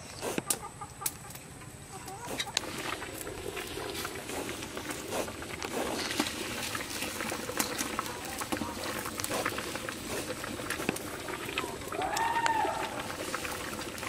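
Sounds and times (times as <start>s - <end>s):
pot boiling with bubbling pops: 0.0s - 14.0s.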